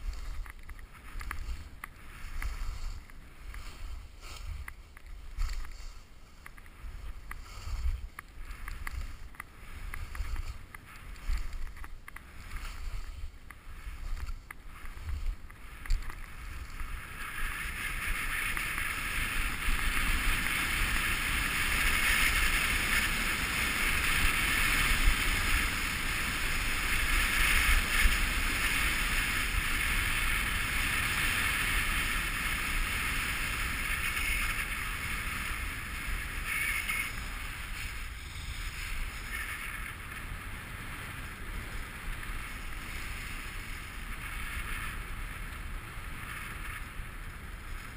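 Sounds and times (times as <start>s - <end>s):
skis hissing on groomed snow: 0.0s - 47.9s
skis scraping over choppy snow: 0.0s - 47.9s.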